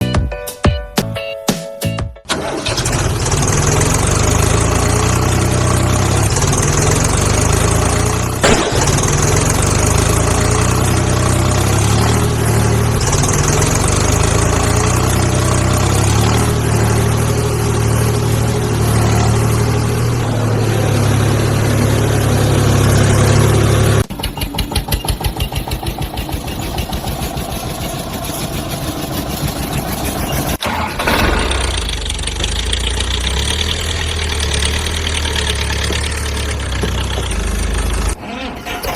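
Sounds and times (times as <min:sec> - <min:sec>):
tractor engine running: 0:02.3 - 0:38.9.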